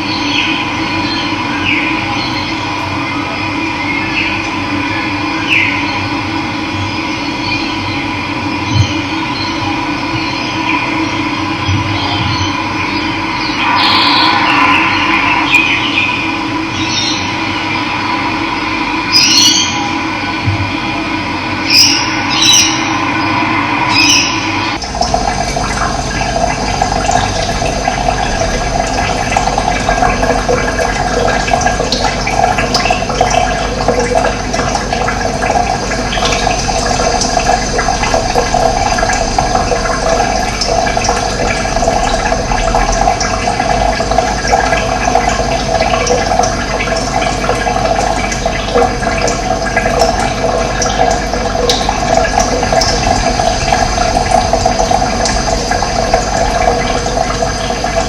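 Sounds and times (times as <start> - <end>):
running water: 8.6 - 58.0.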